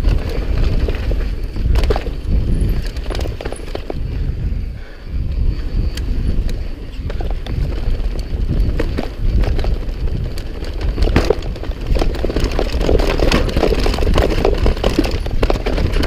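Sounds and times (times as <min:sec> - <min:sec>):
tyres rolling over dirt: 0:00.0 - 0:04.2, 0:06.5 - 0:16.0
bike rattling and knocking: 0:00.0 - 0:04.5, 0:05.4 - 0:16.0
wind buffeting microphone: 0:00.0 - 0:16.0.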